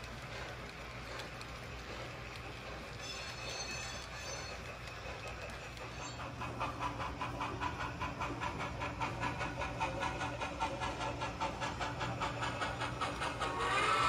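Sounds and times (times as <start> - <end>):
model train running: 0.0 - 14.0.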